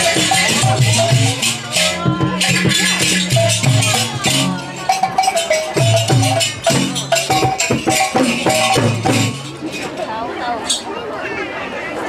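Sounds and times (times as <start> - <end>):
rhythmic percussion with pitched notes: 0.0 - 10.1.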